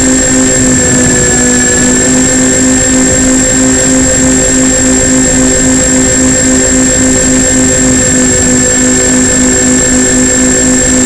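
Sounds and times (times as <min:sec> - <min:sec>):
model plane motors droning: 0:00.0 - 0:11.0.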